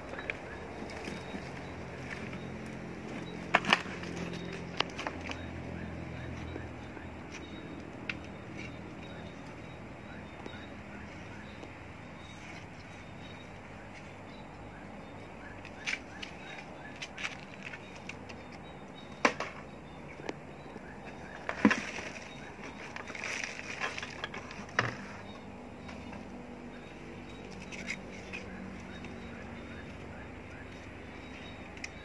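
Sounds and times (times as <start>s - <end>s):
hand scraping potting mix: 0.0s - 18.6s, 21.0s - 32.0s.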